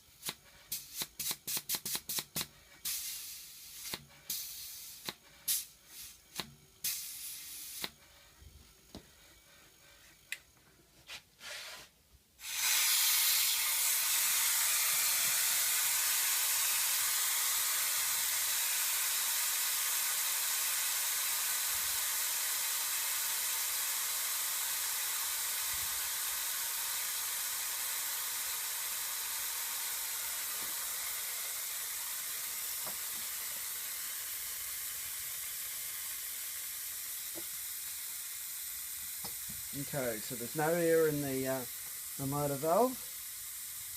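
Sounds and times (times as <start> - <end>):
compressed air hissing: 0.0 - 8.4, 11.1 - 43.9.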